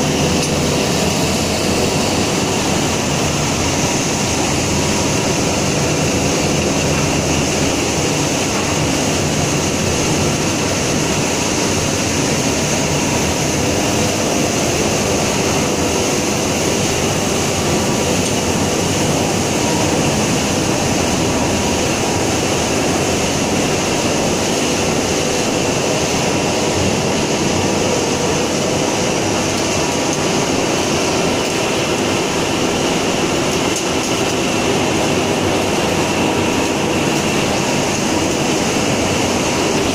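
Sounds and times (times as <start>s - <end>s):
industrial machinery din: 0.0s - 39.9s.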